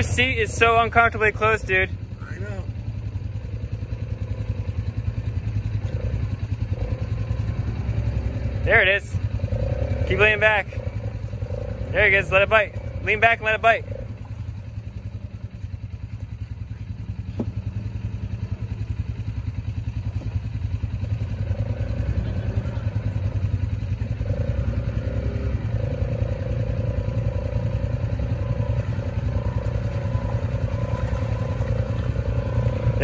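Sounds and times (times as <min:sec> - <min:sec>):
quad engine droning under load: 0:00.0 - 0:33.0
steady engine whine: 0:00.0 - 0:33.0.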